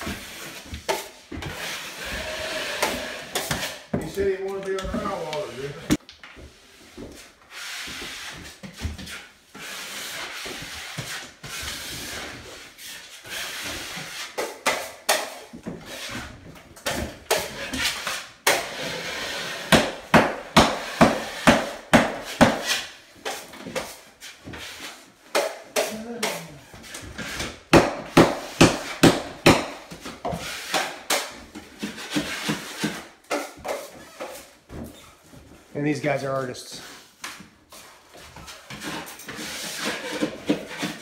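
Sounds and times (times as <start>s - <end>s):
taping knife scraping compound: 0.0s - 6.0s, 7.5s - 16.4s, 20.6s - 34.6s, 36.7s - 41.0s.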